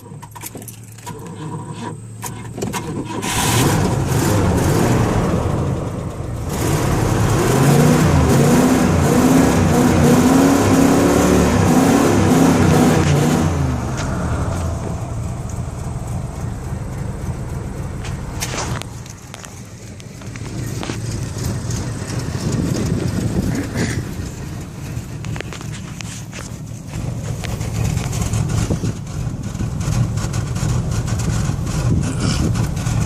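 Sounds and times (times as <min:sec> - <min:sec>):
car engine starting and revving: 0:00.0 - 0:33.0.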